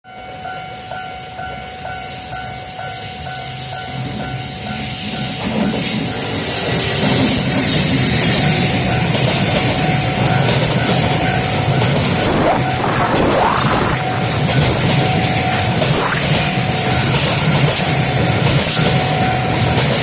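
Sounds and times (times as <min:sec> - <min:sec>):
freight train passing: 0:00.1 - 0:20.0
train wheels rumbling: 0:02.0 - 0:20.0.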